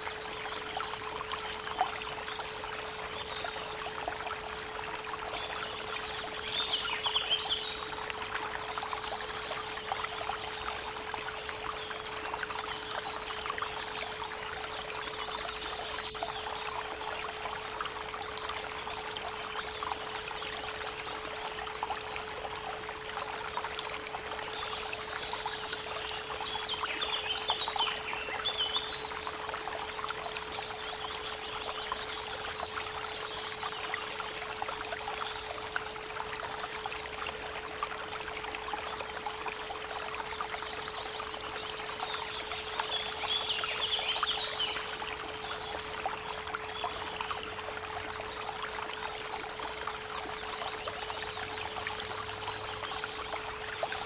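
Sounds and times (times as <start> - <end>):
creek water babbling: 0.0 - 54.0.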